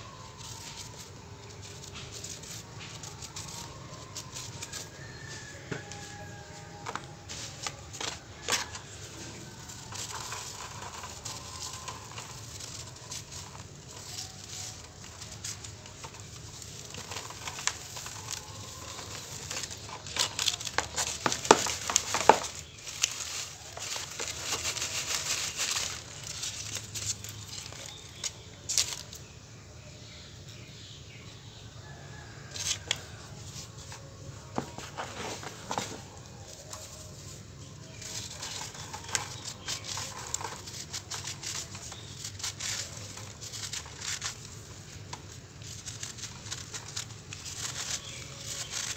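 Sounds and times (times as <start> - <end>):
grit pattering onto mesh: 0.0 - 29.2, 31.8 - 48.9.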